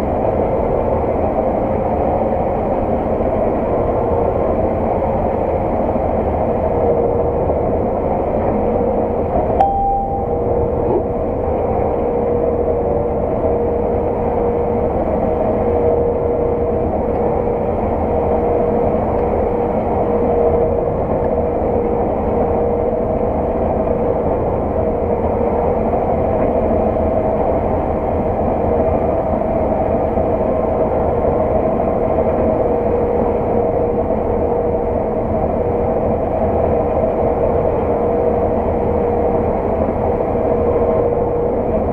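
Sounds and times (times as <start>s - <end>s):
harvest machinery engine drone: 0.0s - 41.9s
machinery whine: 0.0s - 41.9s.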